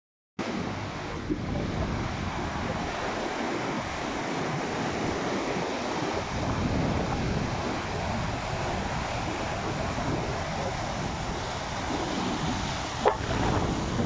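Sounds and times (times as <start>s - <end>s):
sea waves breaking: 0.4s - 14.0s
wind gusting on microphone: 0.4s - 14.0s.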